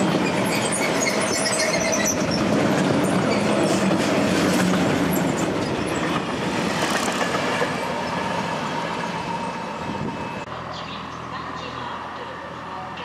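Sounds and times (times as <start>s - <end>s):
freight train rolling past: 0.0s - 13.0s.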